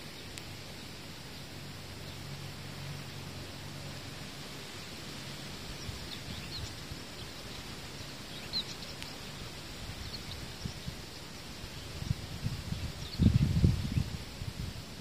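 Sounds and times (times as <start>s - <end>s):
songbirds chirping: 0.0s - 15.0s
steady outdoor hiss: 0.0s - 15.0s.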